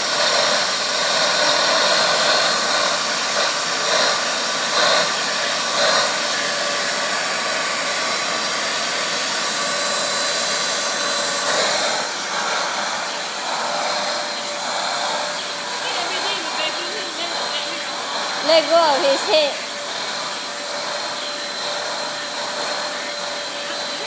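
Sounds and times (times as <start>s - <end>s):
vacuum cleaner with high whine: 0.0s - 24.0s.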